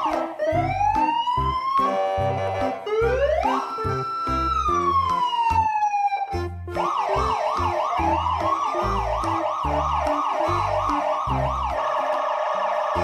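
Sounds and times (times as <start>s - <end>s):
background music with bass beat: 0.0s - 11.8s
electronic siren warbling: 0.0s - 13.0s.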